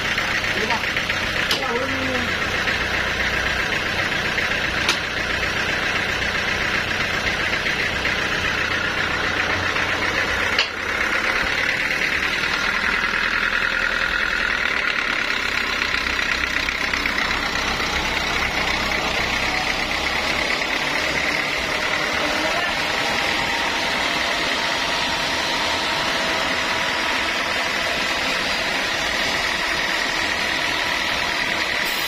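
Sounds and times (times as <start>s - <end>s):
sawmill saw cutting log: 0.0s - 32.0s.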